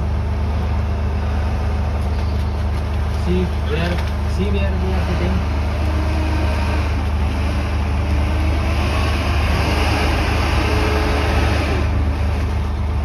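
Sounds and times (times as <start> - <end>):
vehicle engine drone from inside cabin: 0.0 - 13.0.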